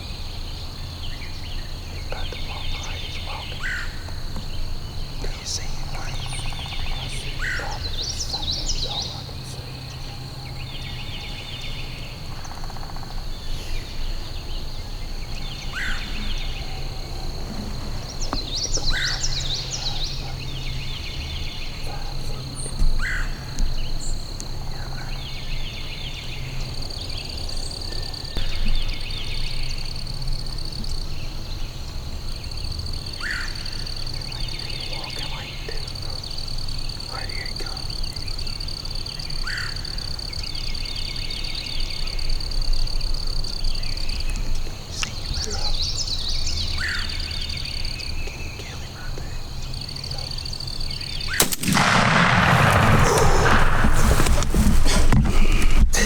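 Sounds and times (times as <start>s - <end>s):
bird calls: 0.0s - 32.4s, 33.1s - 56.0s.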